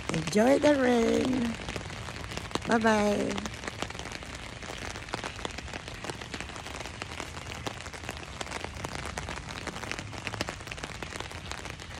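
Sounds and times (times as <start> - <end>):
rain pattering on umbrella: 0.0 - 11.9.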